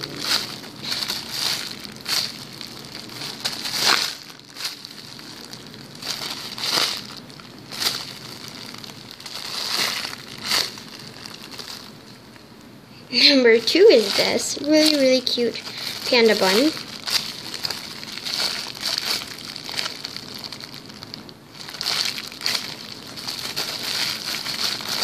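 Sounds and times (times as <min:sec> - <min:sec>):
plastic bag crinkling: 0:00.0 - 0:12.4, 0:13.2 - 0:25.0.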